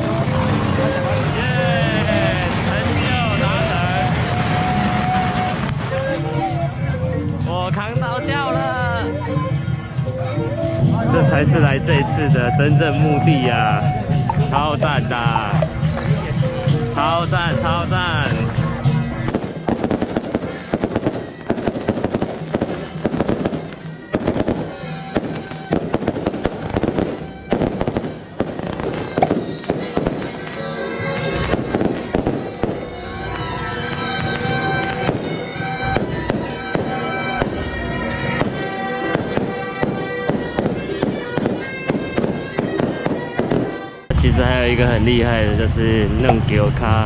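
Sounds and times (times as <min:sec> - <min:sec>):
firecrackers crackling: 0:00.0 - 0:06.6, 0:14.4 - 0:46.9
music with held notes: 0:00.0 - 0:47.0.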